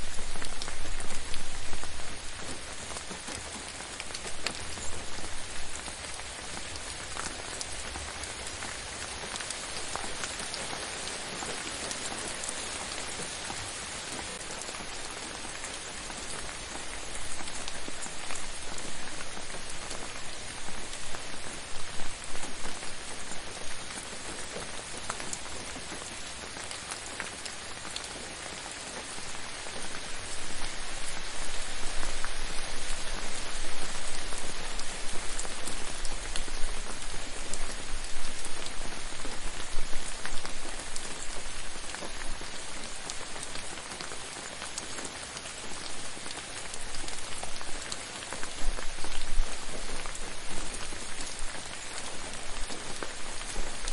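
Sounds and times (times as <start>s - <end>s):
gentle rain falling: 0.0s - 53.9s
raindrops pattering: 0.0s - 53.9s.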